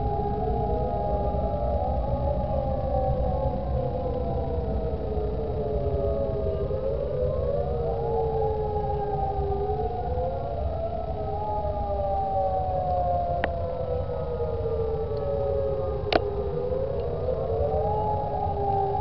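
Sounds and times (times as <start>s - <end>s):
warning sirens wailing: 0.0s - 19.0s.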